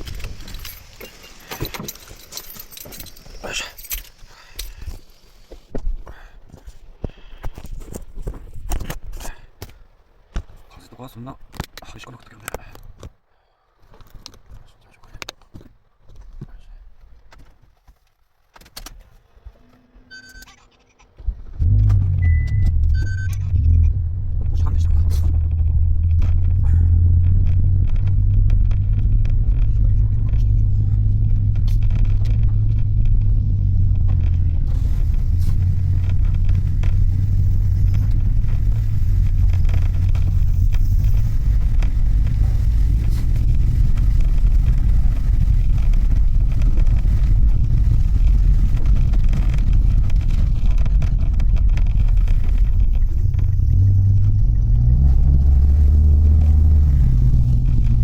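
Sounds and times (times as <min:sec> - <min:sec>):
van engine and road rumble: 0:00.0 - 0:58.0.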